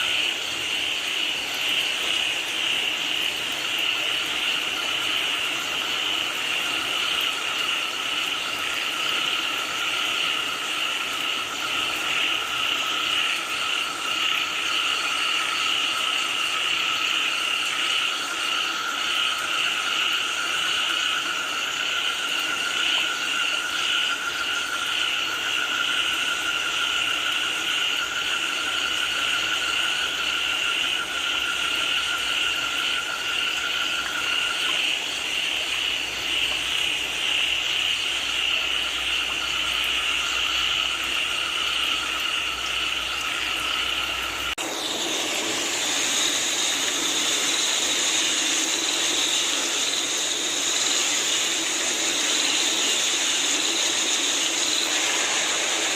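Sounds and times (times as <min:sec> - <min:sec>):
frogs croaking: 0:00.0 - 0:55.9
rain falling: 0:00.0 - 0:55.9.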